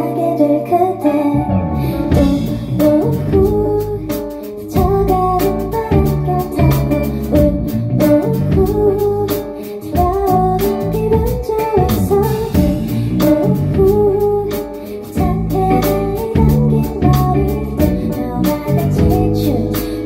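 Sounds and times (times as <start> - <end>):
guitar: 0.0 - 20.0
live band playing: 0.0 - 20.0
woman singing into a microphone: 0.0 - 20.0.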